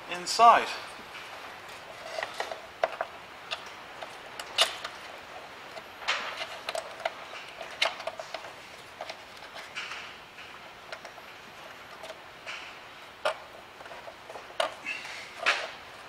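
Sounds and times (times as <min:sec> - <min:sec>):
hands handling plastic parts: 0:01.6 - 0:16.0.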